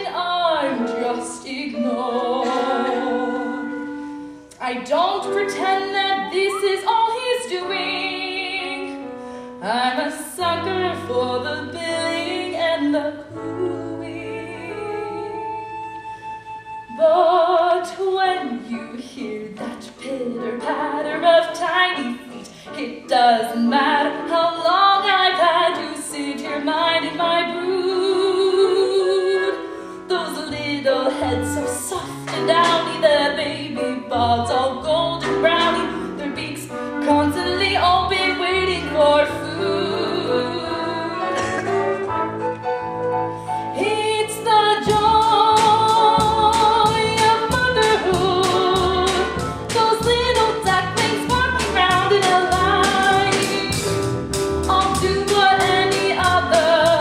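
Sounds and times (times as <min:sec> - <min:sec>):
woman singing: 0:00.0 - 0:09.0, 0:09.6 - 0:16.1, 0:16.9 - 0:42.0, 0:43.7 - 0:54.0, 0:54.6 - 0:57.0
instrumental accompaniment: 0:00.0 - 0:57.0.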